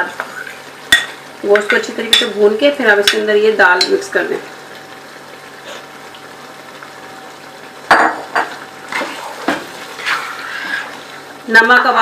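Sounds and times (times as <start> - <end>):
faint sizzling: 0.0 - 12.0.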